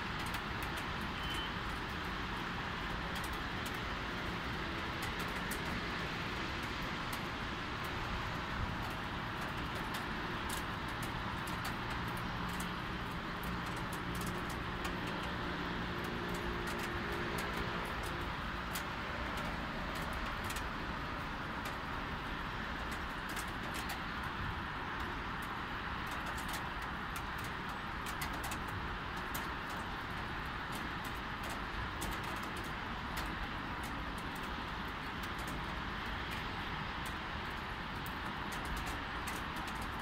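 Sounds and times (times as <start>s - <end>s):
distant city traffic hum: 0.0s - 40.0s
light rain falling: 0.0s - 40.0s
raindrops ticking: 0.0s - 40.0s.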